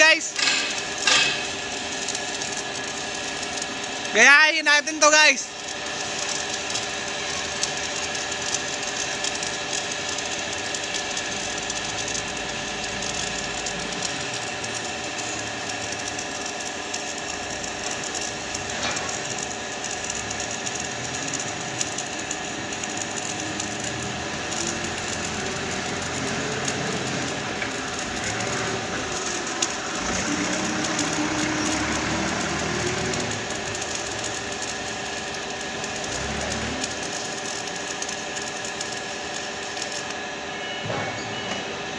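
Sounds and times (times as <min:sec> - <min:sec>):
welding arc crackling: 0:00.0 - 0:40.8.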